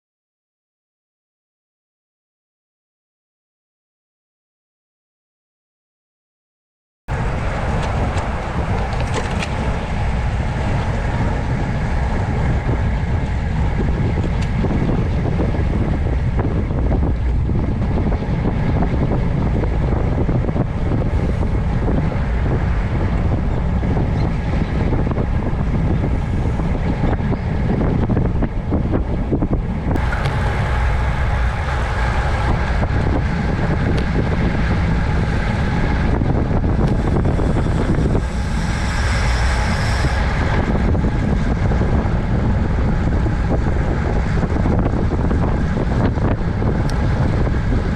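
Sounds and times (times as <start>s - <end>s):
vehicle running noise: 7.1s - 47.9s
wind rushing over microphone: 7.1s - 47.9s.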